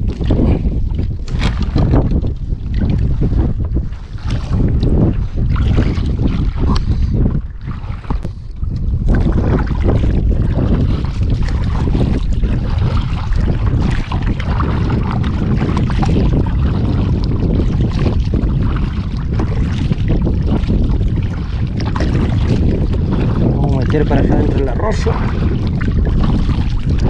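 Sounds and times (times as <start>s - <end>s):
water splashing against kayak: 0.0s - 27.0s
wind buffeting microphone: 0.0s - 27.0s.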